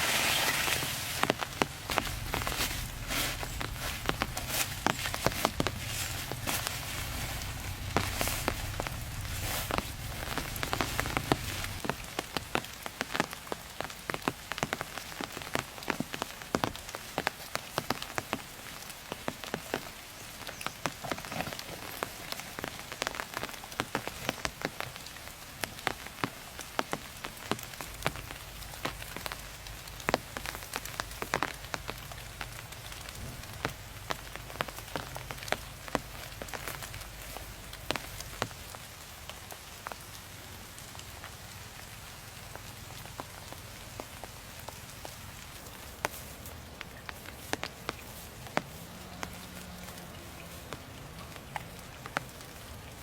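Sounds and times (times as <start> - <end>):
rain falling: 0.0 - 53.0
sharp raindrop hits: 0.0 - 53.0.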